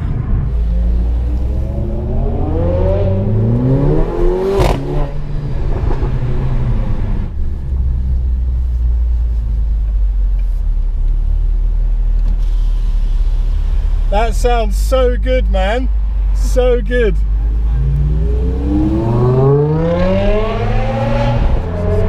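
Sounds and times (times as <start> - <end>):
car engine accelerating: 0.0 - 14.5, 17.1 - 22.0
exhaust crack at upshift: 0.0 - 14.9, 17.2 - 22.0.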